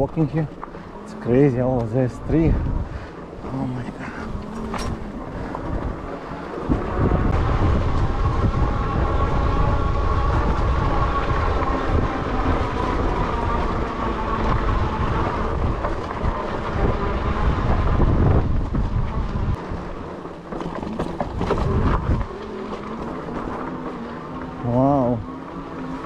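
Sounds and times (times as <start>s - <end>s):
bike rattling over rocky trail: 0.0s - 26.0s
electric motor whine: 0.0s - 26.0s
wind buffeting microphone: 0.0s - 26.0s.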